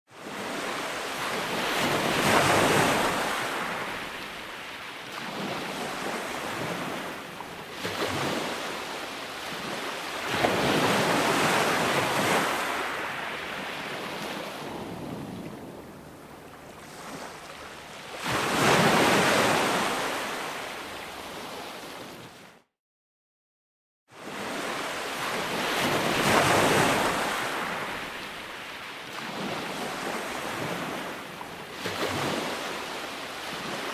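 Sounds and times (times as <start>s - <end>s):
ocean waves breaking: 0.2s - 22.6s, 24.2s - 33.9s.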